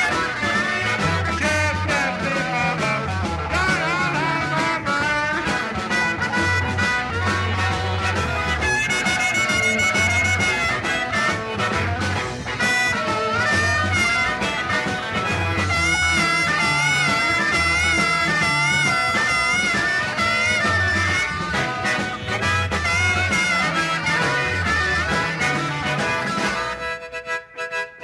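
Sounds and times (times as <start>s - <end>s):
live blues band playing: 0.0s - 28.0s.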